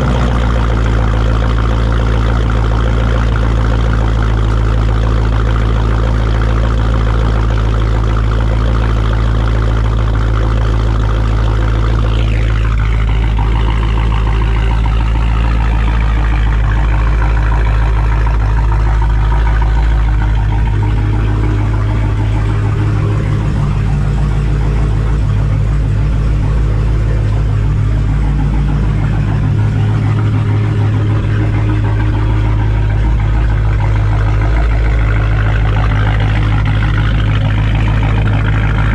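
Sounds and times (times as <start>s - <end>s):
car engine idling loud and deep: 0.0s - 38.9s
high whine: 0.0s - 38.9s.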